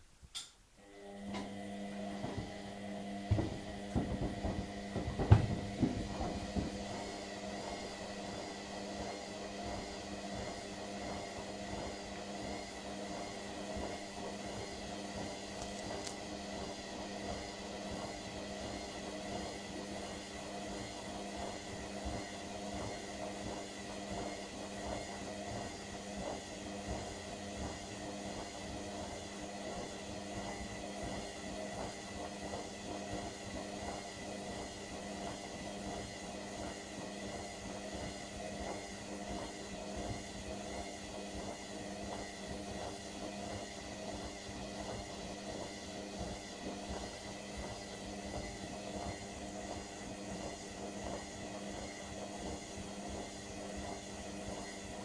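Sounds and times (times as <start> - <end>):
washing machine running: 0.8 - 55.0.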